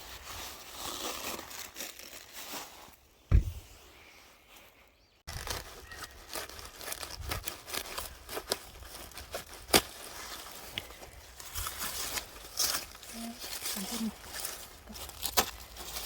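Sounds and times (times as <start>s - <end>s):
rustling crackling and tearing: 0.0s - 3.8s, 5.3s - 16.0s.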